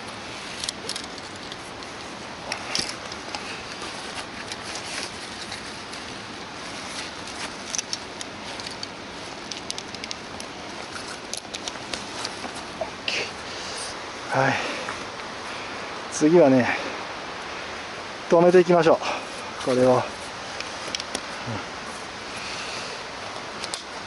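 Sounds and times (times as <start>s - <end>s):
tent fabric rustling: 0.0s - 24.0s.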